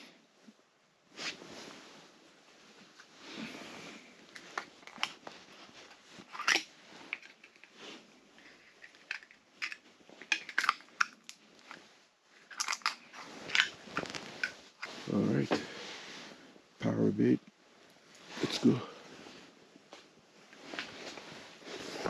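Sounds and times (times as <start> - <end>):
crackles: 0.0 - 22.0.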